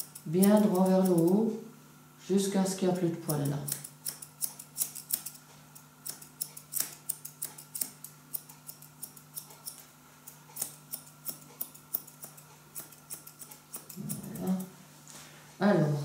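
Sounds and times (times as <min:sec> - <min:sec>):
scissors snipping hair: 0:00.0 - 0:01.4, 0:02.9 - 0:14.7.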